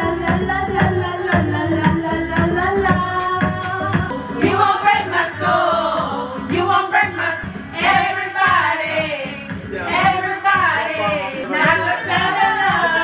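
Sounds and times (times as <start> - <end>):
karaoke backing track: 0.0 - 13.0
woman singing into microphone: 0.0 - 13.0.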